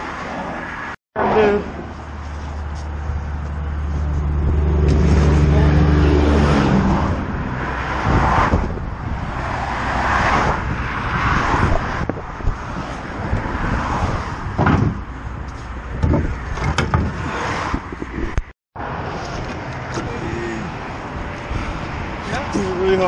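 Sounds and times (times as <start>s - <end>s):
vehicle engine hum: 0.0s - 23.0s
vehicles passing: 0.0s - 23.0s.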